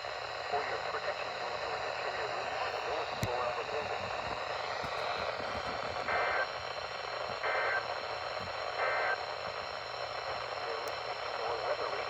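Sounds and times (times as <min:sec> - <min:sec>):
radio static hiss: 0:00.1 - 0:12.0.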